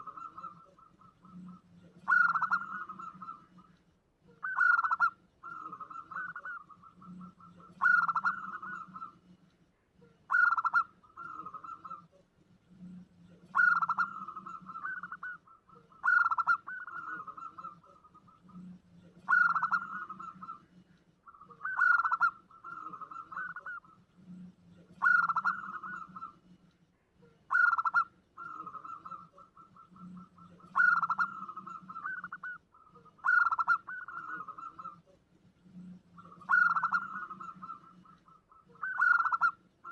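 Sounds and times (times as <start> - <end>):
dove cooing: 0.0 - 9.4, 10.0 - 26.6, 27.2 - 39.9.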